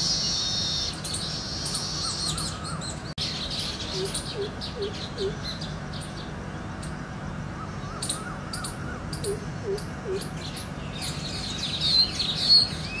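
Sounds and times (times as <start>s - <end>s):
high bird twittering: 0.0s - 13.0s
small birds chirping: 0.0s - 13.0s.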